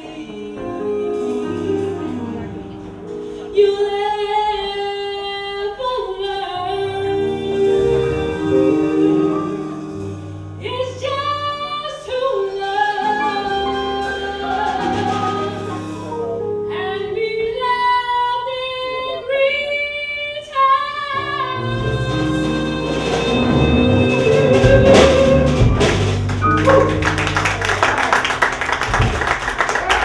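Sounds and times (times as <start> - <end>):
sustained keyboard chords: 0.0 - 4.4, 6.6 - 18.2, 21.2 - 29.9
woman singing jazz: 0.0 - 27.0.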